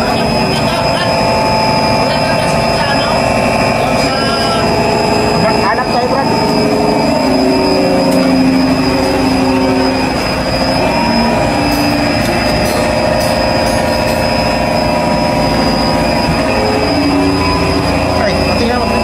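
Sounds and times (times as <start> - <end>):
machine hums: 0.0 - 19.0
machinery droning: 0.0 - 19.0.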